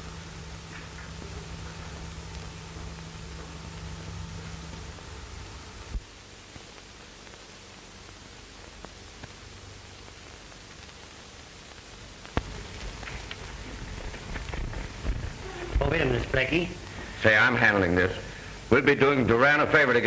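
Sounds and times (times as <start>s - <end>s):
film soundtrack hiss and crackle: 0.0s - 20.0s.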